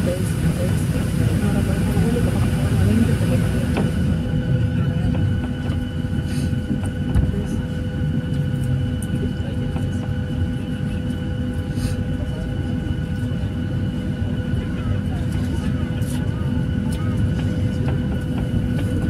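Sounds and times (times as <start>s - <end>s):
aircraft cabin rumble: 0.0s - 19.0s
jet engine whine: 0.0s - 19.0s.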